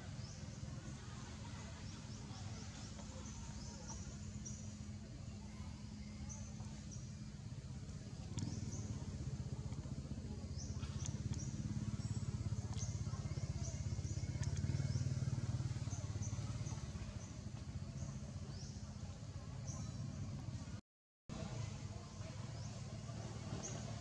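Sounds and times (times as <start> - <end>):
motor engine running: 0.0 - 24.0.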